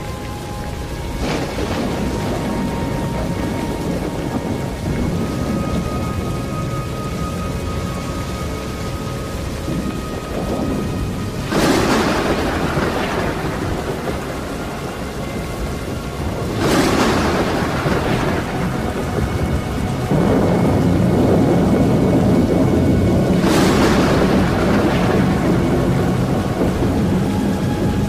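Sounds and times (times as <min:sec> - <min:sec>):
sharp thunderclaps rolling: 0:00.0 - 0:28.0
steady rain: 0:00.0 - 0:28.0.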